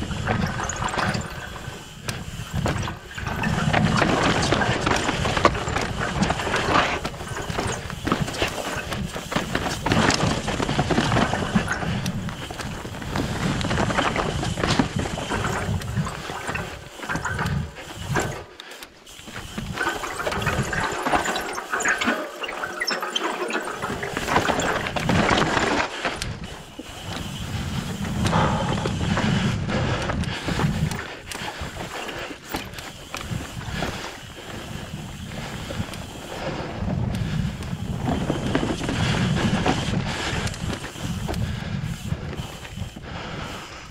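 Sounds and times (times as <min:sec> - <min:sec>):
wind rumbling on microphone: 0:00.0 - 0:18.4, 0:19.3 - 0:22.0, 0:23.6 - 0:43.9
bike rattling and clicking: 0:00.0 - 0:43.9
bike tyres rolling on rock: 0:00.0 - 0:43.9.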